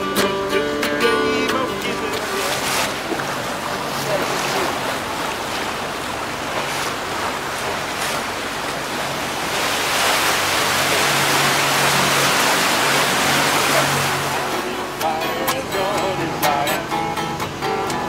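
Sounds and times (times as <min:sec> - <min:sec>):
faint boat engine hum: 0:00.0 - 0:18.0
water and wind rushing: 0:00.0 - 0:18.0.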